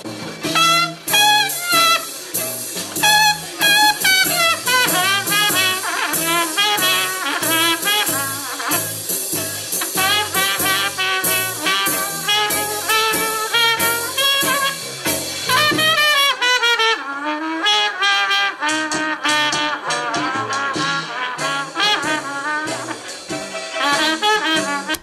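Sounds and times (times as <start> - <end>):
brass swing jazz: 0.0 - 25.0.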